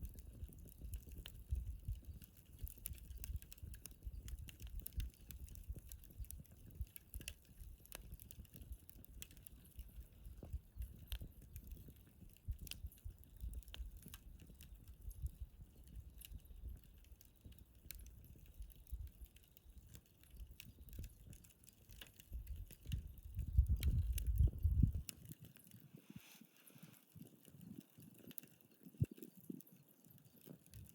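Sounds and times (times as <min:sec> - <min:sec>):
fire low rumble: 0:00.0 - 0:29.7
wood fire crackling and popping: 0:00.0 - 0:30.9.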